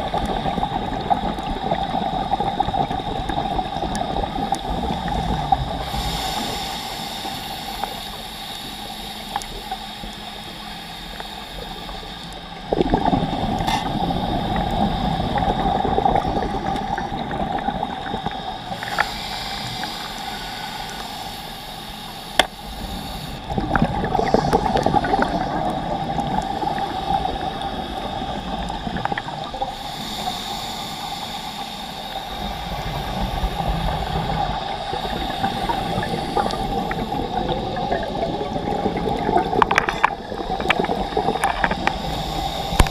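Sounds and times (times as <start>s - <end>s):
steady hum: 0.0s - 42.9s
underwater exhaled breath bubbles: 0.0s - 42.9s.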